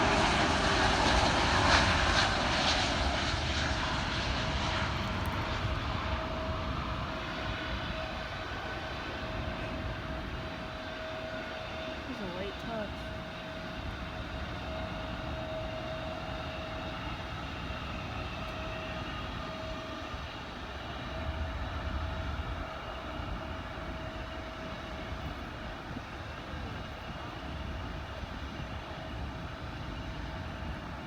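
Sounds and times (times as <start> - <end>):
jet engines whining: 0.0 - 30.9.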